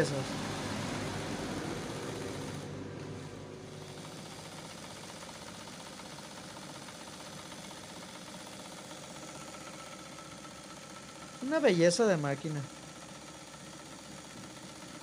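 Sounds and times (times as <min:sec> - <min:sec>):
sewing machine motor humming: 0:00.0 - 0:15.0.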